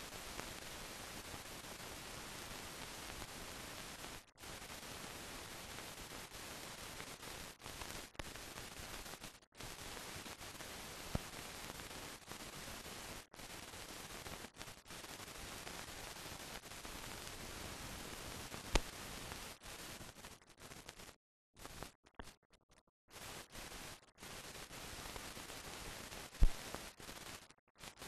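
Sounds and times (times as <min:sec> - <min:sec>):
film soundtrack hiss: 0:00.0 - 0:21.9, 0:23.1 - 0:28.0.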